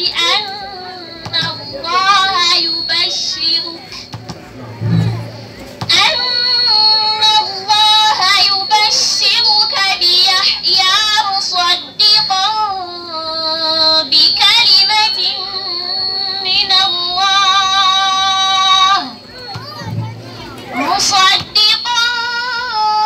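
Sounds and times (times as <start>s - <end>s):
girl reciting melodically: 0.0s - 4.1s, 5.8s - 23.0s.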